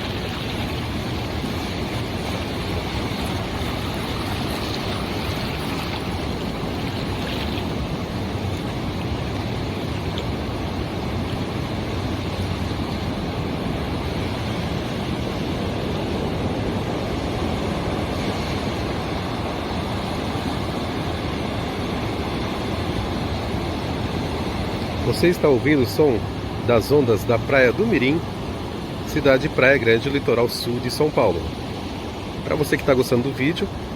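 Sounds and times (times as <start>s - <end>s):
ocean waves washing onto beach: 0.0s - 33.9s.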